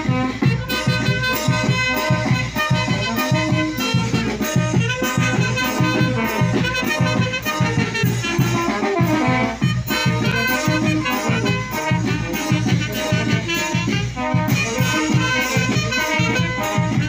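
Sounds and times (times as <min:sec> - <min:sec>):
drums beating: 0:00.0 - 0:17.0
horns playing: 0:00.0 - 0:17.0
live band dance music: 0:00.0 - 0:17.0.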